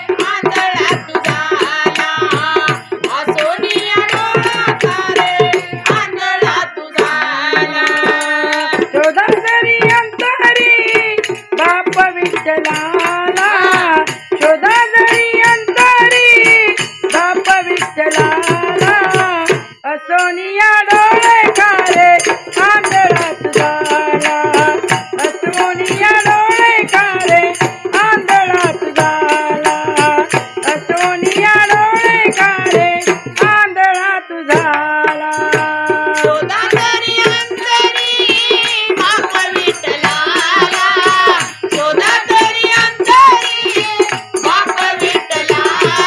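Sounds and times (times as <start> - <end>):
fast steady percussion: 0.0 - 46.0
women singing devotional song: 0.0 - 46.0.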